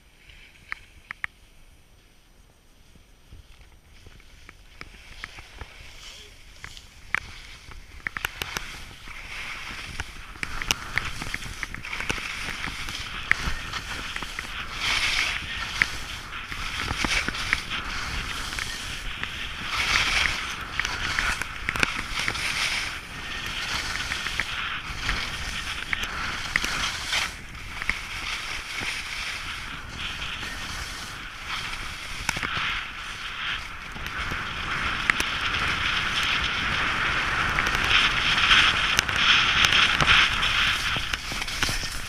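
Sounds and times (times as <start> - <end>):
skis scraping over snow: 0.0 - 42.0.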